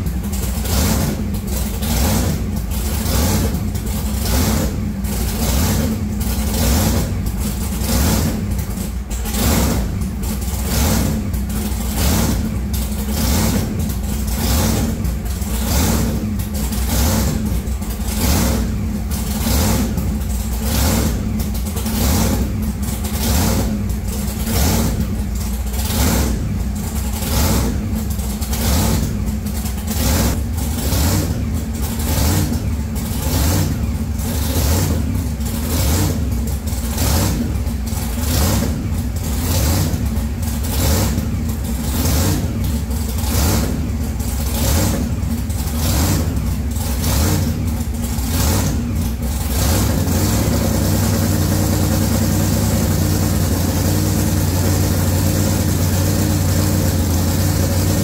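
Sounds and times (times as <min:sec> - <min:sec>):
supercharged engine revving and idling: 0:00.0 - 0:58.0.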